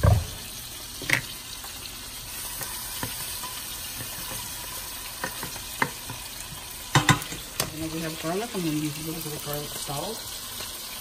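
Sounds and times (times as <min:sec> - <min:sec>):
fish frying in pan: 0:00.0 - 0:11.0
onion and garlic sizzling: 0:00.0 - 0:11.0.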